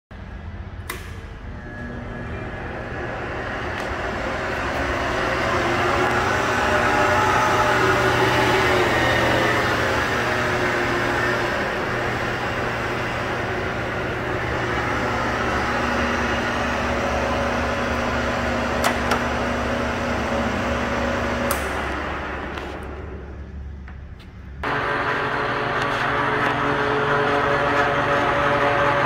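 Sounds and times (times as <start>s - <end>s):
lathe motor whine: 1.0s - 23.9s, 24.5s - 29.0s.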